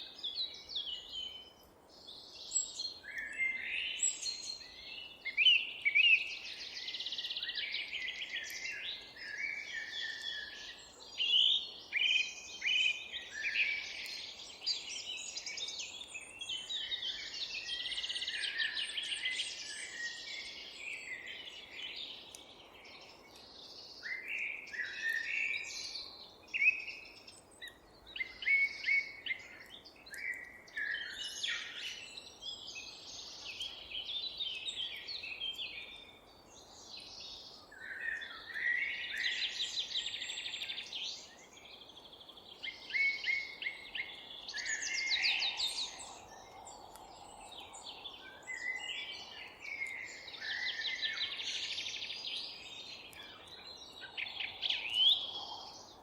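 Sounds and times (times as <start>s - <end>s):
faint steady hiss: 0.0s - 56.0s
songbirds singing: 0.0s - 56.0s.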